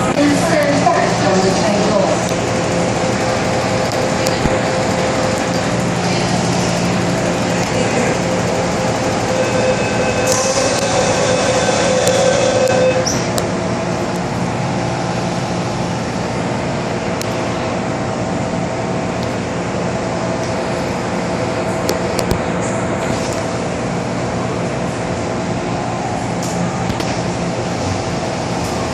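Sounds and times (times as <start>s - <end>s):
metro train rumbling: 0.0s - 28.9s
train whine: 0.0s - 28.9s.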